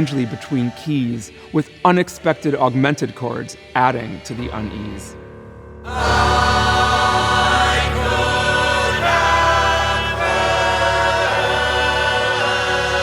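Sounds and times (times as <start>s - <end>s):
chorus singing in close harmony: 0.0s - 5.2s, 5.9s - 13.0s.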